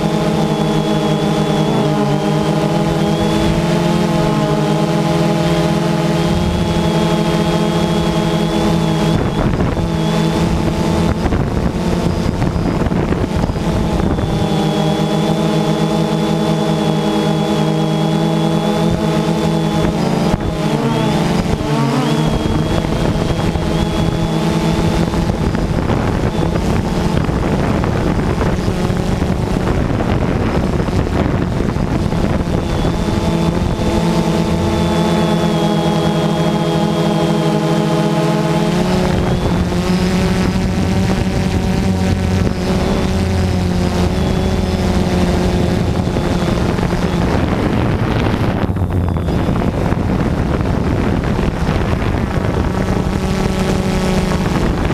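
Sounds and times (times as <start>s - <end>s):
drone propellers buzzing: 0.0s - 54.9s.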